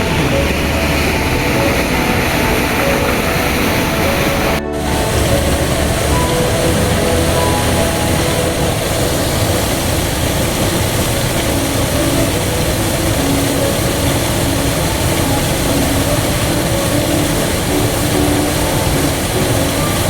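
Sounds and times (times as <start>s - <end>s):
faint music: 0.0s - 20.0s
waterfall rushing: 0.0s - 20.0s.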